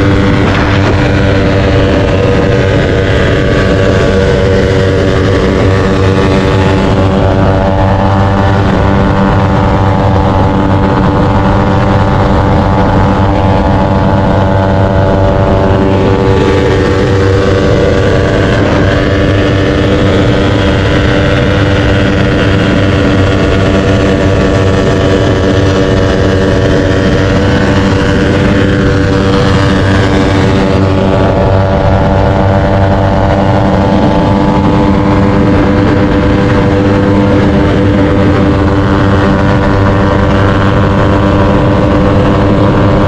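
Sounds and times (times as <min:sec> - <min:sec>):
small motorcycle engine running: 0:00.0 - 0:43.0.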